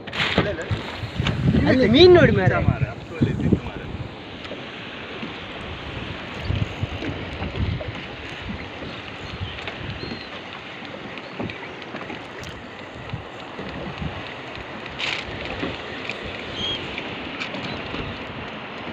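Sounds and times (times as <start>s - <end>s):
wind blowing on microphone: 0.0s - 10.6s, 11.2s - 18.9s
choppy sea water: 0.0s - 18.9s.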